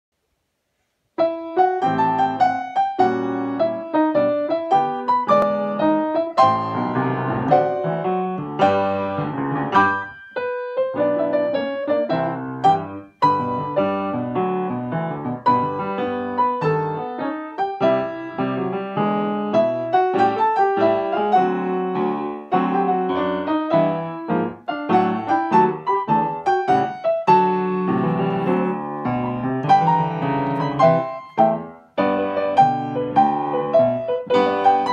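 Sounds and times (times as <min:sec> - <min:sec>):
piano duet: 0:01.1 - 0:34.9.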